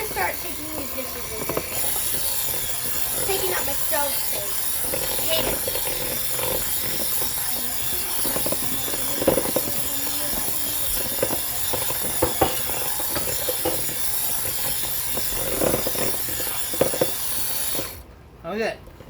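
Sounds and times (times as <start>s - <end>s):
knocks and clatters: 0.0s - 18.0s
electric hand mixer running: 0.0s - 18.1s.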